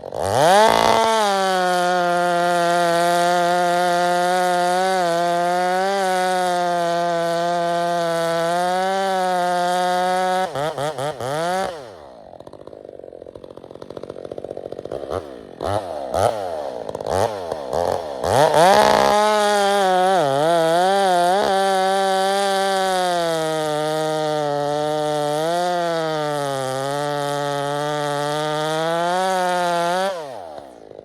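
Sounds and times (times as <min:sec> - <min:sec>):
chainsaw revving and idling: 0:00.0 - 0:31.0.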